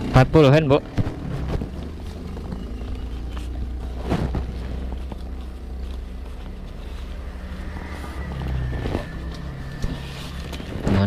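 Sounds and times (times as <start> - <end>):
motorcycle engine idling: 0.0 - 11.0
handling noise: 0.8 - 11.0.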